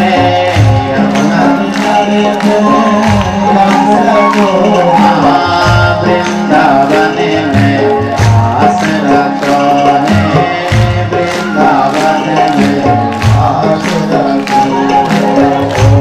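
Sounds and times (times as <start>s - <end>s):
hand percussion strokes: 0.0s - 16.0s
man singing: 0.0s - 16.0s.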